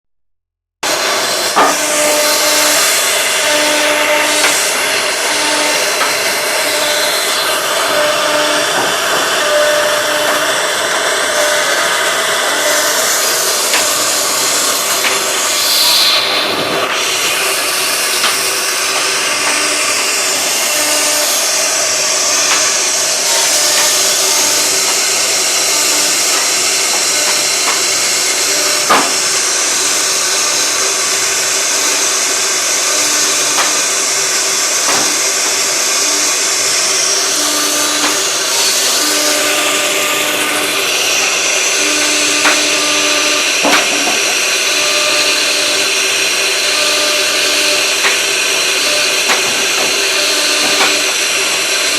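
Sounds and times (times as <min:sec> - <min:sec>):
router spindle cutting wood: 0:00.8 - 0:51.9
axis motor tones: 0:00.9 - 0:51.9.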